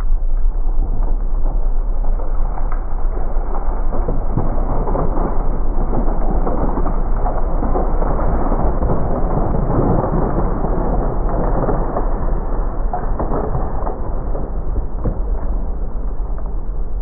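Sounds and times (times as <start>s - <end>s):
flying debris crackle: 0.0s - 17.0s
slowed-down shotgun blast rumble: 0.0s - 17.0s.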